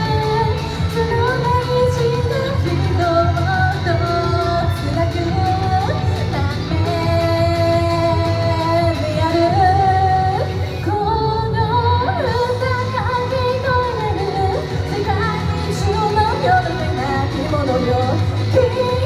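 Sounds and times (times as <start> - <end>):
pop backing track: 0.0 - 19.0
woman singing: 0.0 - 19.0.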